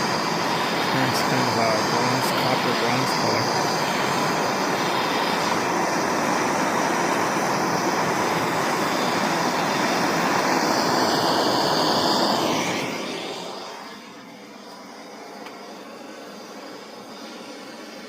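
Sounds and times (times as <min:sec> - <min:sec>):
gas torch flame hissing: 0:00.0 - 0:18.0.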